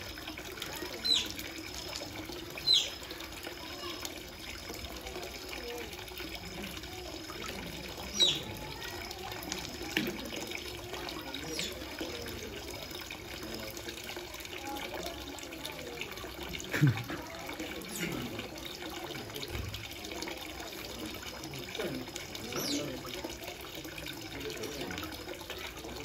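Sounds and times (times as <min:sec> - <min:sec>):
water running into trough: 0:00.0 - 0:26.0.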